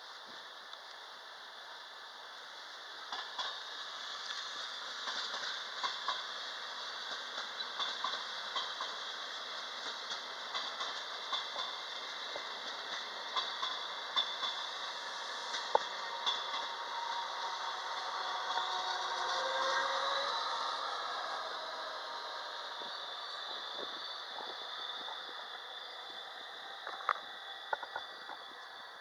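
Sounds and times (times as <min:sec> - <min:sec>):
train running noise: 0:00.0 - 0:29.0
wheels clicking and knocking: 0:05.0 - 0:28.6.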